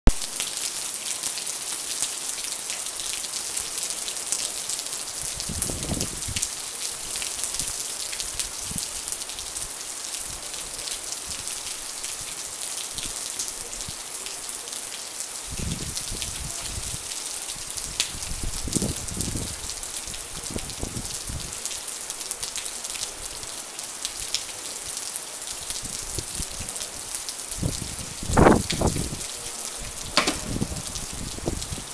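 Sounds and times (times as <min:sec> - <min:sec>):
heavy rain pouring: 0:00.1 - 0:31.9.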